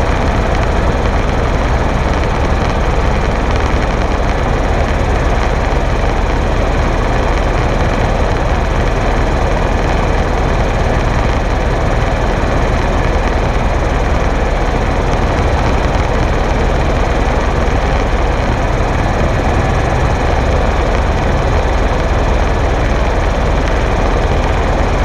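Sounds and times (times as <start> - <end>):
helicopter rotor and engine noise: 0.0 - 25.0.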